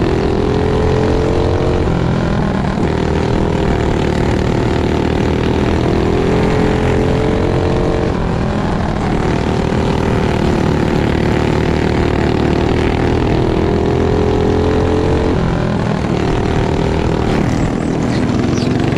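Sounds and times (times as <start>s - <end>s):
kart engine at high revs: 0.0s - 18.9s.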